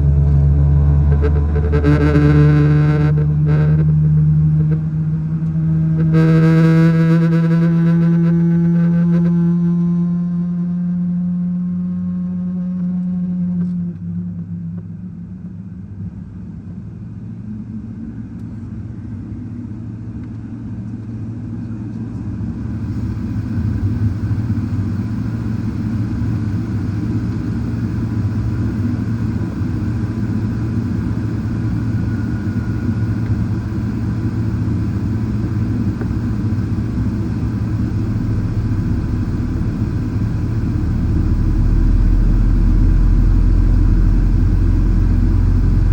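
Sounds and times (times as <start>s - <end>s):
airplane cabin rumble: 0.0s - 6.7s, 14.3s - 45.9s
faint high whine: 0.0s - 45.9s.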